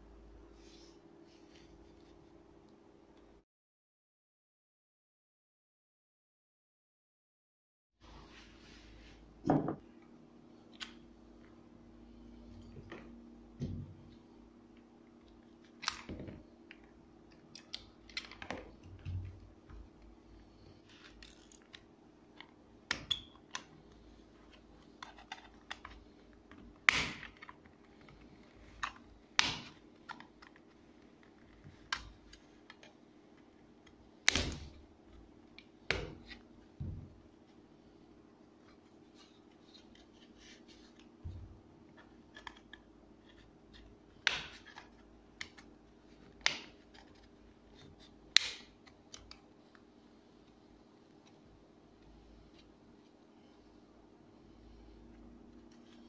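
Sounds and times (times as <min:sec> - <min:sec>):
faint steady hum: 0:00.0 - 0:03.4, 0:08.0 - 0:56.0.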